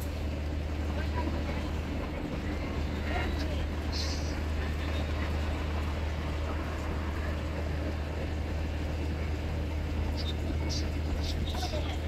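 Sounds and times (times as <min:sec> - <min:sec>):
bus engine droning: 0:00.0 - 0:12.0
road and tyre noise: 0:00.0 - 0:12.0.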